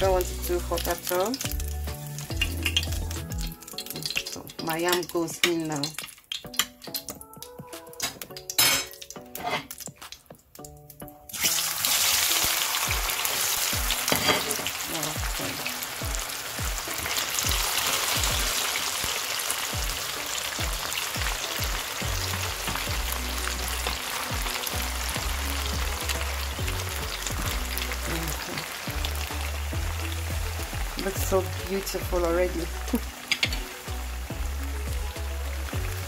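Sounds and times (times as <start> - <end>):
food deep-frying in hot oil: 0.0 - 36.0.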